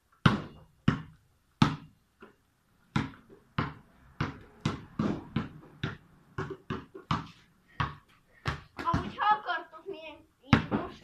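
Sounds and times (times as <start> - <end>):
basketball bouncing: 0.2 - 9.4, 10.5 - 11.0.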